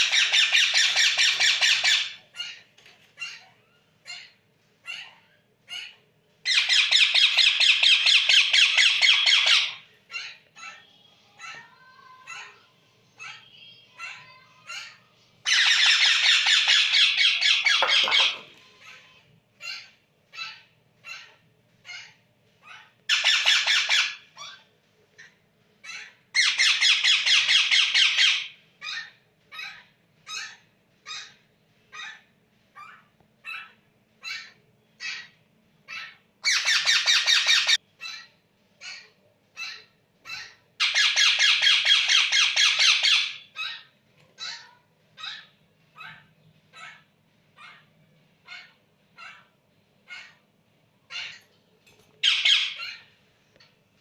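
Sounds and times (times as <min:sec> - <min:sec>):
parakeet squawking: 0:00.0 - 0:50.5, 0:51.1 - 0:51.6, 0:52.2 - 0:53.2.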